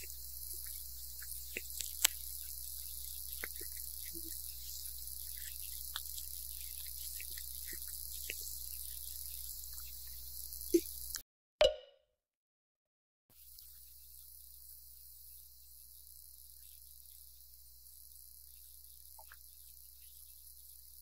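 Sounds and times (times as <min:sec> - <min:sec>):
steady hiss: 0:00.0 - 0:11.2, 0:13.3 - 0:21.0.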